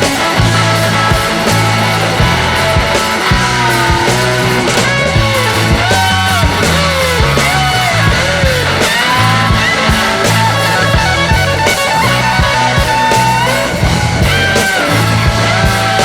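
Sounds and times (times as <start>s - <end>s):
rock music with guitar: 0.0s - 16.0s.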